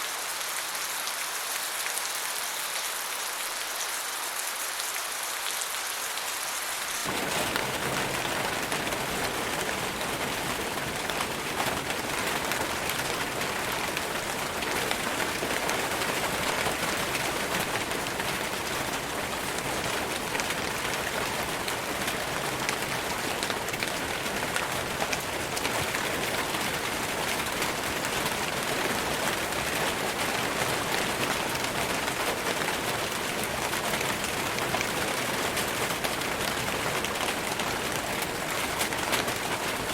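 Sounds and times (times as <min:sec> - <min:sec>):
rain on forest foliage: 0:00.0 - 0:39.9.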